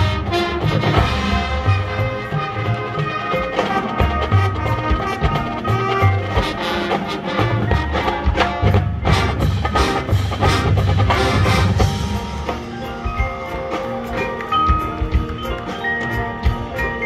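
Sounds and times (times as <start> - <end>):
marching band playing: 0.0 - 17.0
percussion strikes: 0.0 - 17.0.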